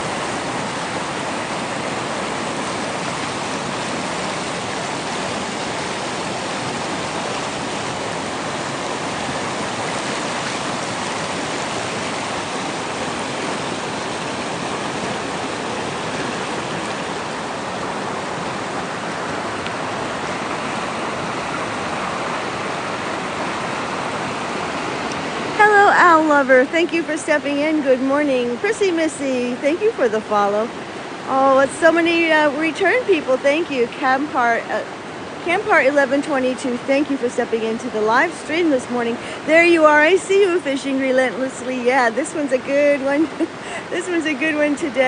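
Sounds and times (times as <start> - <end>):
river rushing: 0.0 - 45.0.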